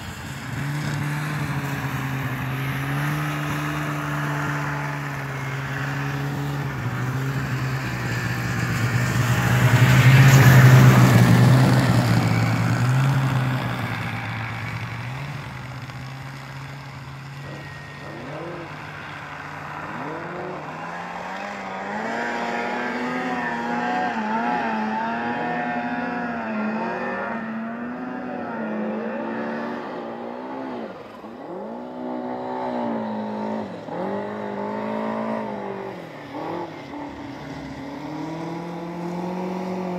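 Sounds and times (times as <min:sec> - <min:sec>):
snowmobile engine passing: 0:00.0 - 0:39.9
snowmobile engine revving: 0:00.0 - 0:39.9.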